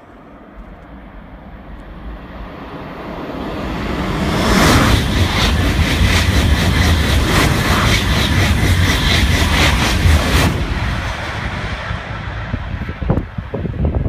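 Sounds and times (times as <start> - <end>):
high-speed train passing: 0.0 - 14.0.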